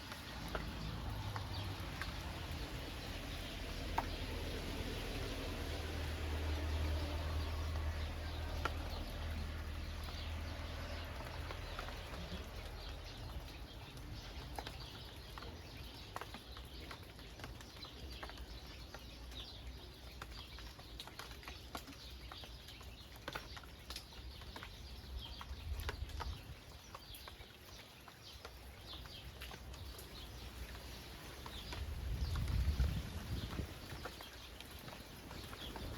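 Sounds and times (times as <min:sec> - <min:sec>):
rain falling: 0:00.0 - 0:35.9
raindrops pattering: 0:00.0 - 0:35.9.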